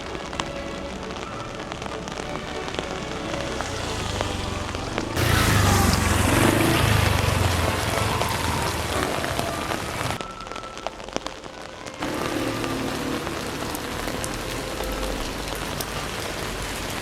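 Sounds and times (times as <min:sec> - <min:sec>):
rain pattering on umbrella: 0:00.0 - 0:17.0
falling whine: 0:01.1 - 0:16.6.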